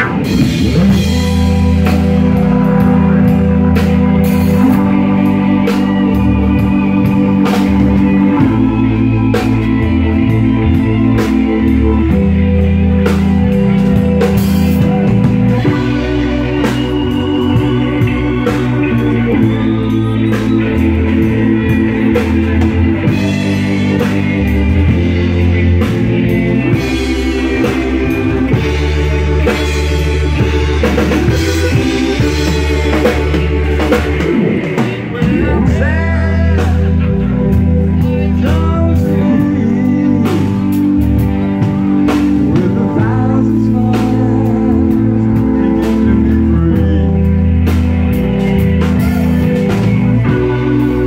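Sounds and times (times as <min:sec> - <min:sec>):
drum kit beat: 0:00.0 - 0:51.0
electric guitar: 0:00.0 - 0:51.0
electric organ chords: 0:00.0 - 0:51.0
rock band playing: 0:00.0 - 0:51.0.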